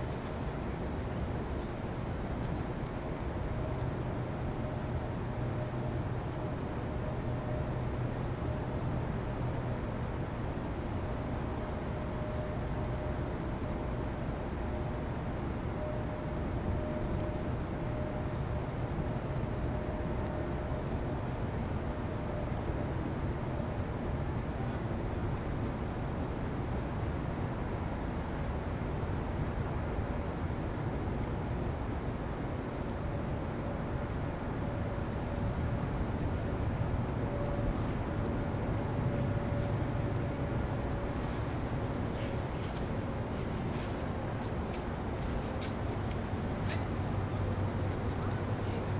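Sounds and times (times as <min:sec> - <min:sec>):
crickets trilling: 0:00.0 - 0:48.9.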